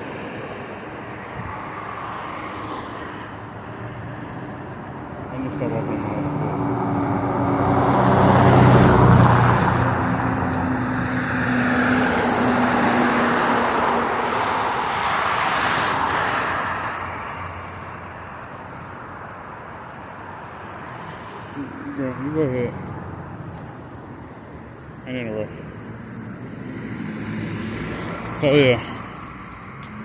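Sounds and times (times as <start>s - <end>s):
tyre and road rush: 0.0s - 30.0s
vehicle engine hum: 0.0s - 30.0s.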